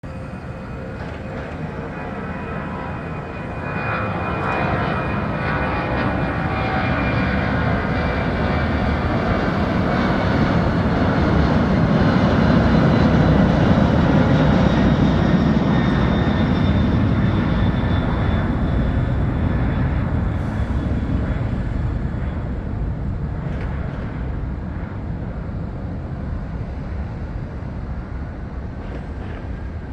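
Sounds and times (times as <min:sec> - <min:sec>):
jet engines roaring: 0:00.0 - 0:29.7.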